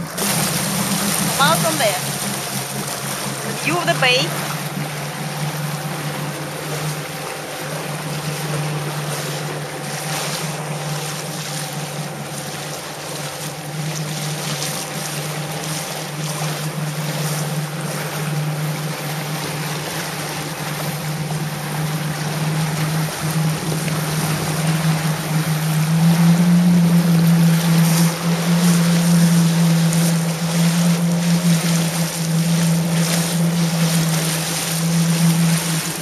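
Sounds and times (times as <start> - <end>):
jet ski engine droning: 0.0 - 36.0
rushing water and wind: 0.0 - 36.0.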